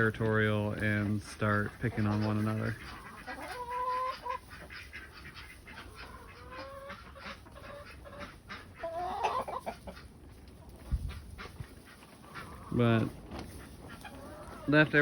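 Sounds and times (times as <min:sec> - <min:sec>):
chickens clucking: 0:00.0 - 0:15.0
drawn-out chicken calls: 0:00.0 - 0:15.0.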